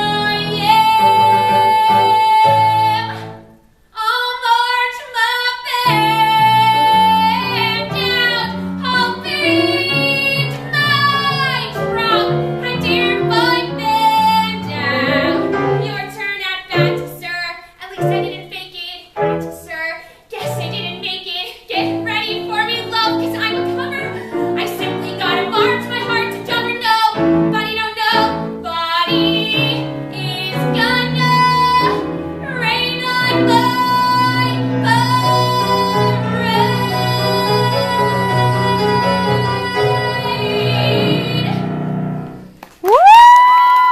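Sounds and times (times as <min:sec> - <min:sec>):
woman singing: 0:00.0 - 0:03.4, 0:04.0 - 0:41.8.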